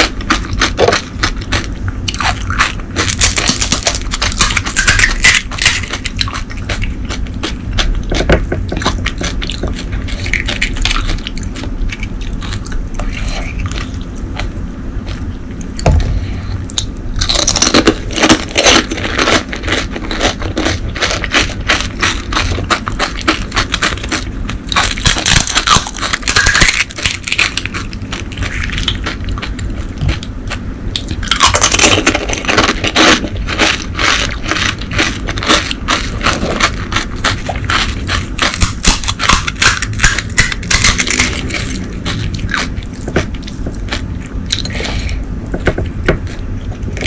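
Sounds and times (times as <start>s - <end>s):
crunching and chewing crisp shells: 0.0s - 47.0s.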